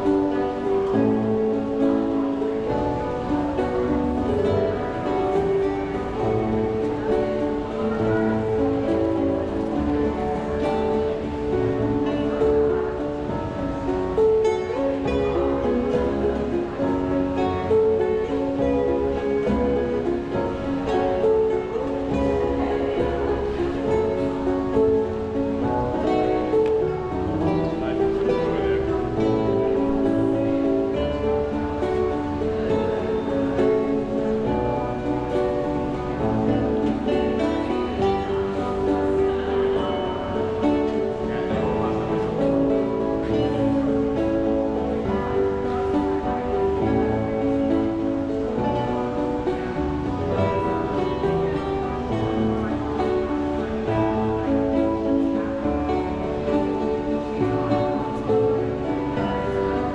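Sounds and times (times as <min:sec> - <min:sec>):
acoustic guitar chords: 0:00.0 - 0:59.9.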